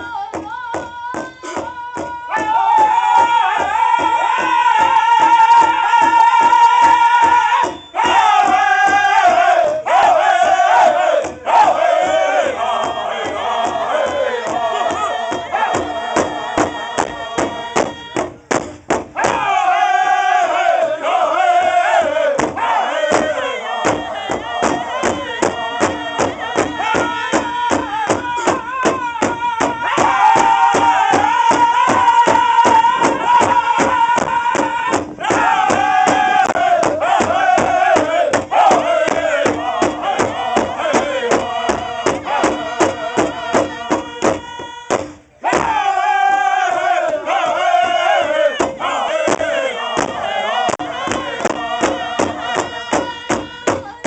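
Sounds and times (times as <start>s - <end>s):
large drum beat: 0.0s - 54.0s
voices chanting together: 0.0s - 54.0s.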